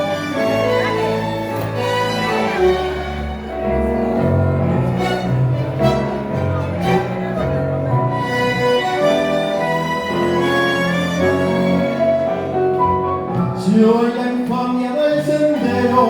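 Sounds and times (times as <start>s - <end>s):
tango orchestra playing: 0.0s - 16.0s.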